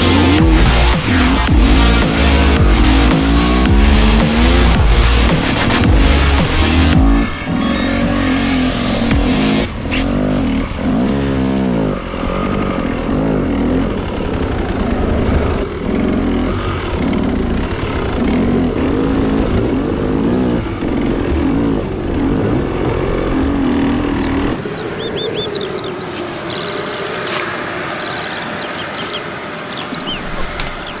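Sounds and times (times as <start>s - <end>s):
birds chirping: 0.0s - 31.0s
dirt bike engine revving: 0.0s - 31.0s.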